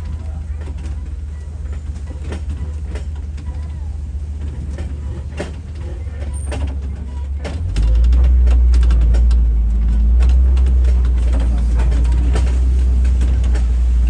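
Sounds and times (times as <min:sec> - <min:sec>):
engine and road rumble: 0:00.0 - 0:14.0
vehicle knocks and rattles: 0:00.0 - 0:14.0.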